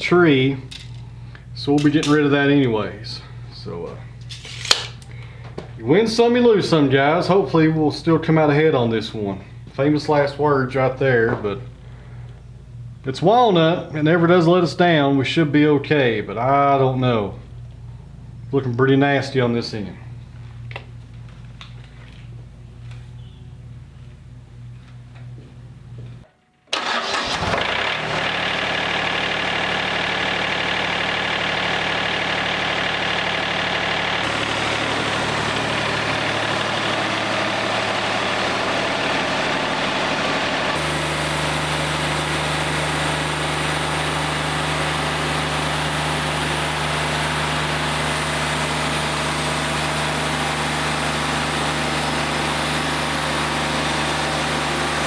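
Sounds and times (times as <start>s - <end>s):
sawmill engine running: 0.0s - 26.2s, 26.8s - 55.0s.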